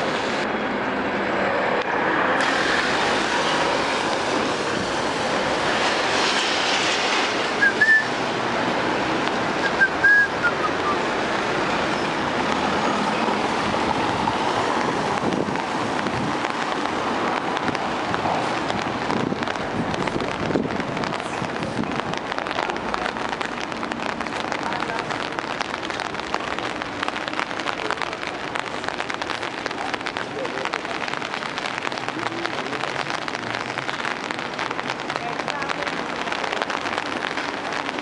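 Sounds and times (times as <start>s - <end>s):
traffic on wet road: 0.0s - 38.0s.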